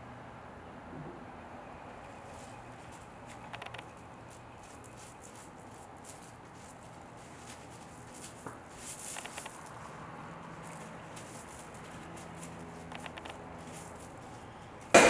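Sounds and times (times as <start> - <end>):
dog paws digging in gravel: 2.2 - 15.0.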